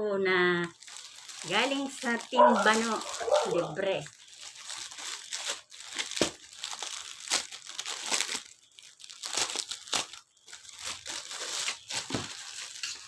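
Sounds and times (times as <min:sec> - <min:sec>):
plastic packaging crinkling: 0:00.4 - 0:13.0.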